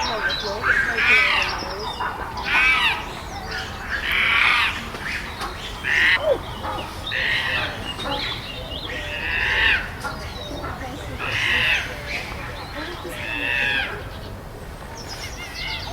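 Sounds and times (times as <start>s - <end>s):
chimpanzees screaming: 0.2s - 14.1s.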